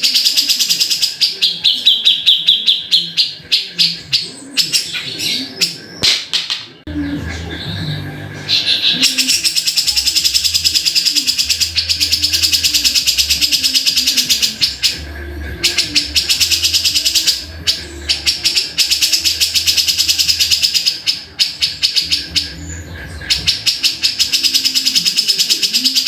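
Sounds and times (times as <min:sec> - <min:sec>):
bird chattering trill: 0:00.0 - 0:05.9, 0:08.5 - 0:26.0.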